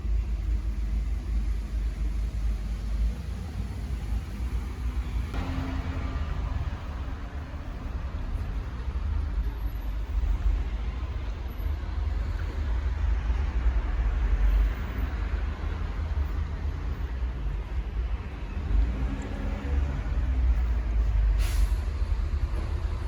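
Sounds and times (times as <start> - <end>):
low rumble of motor vehicle: 0.0 - 23.0
road noise: 0.0 - 23.0.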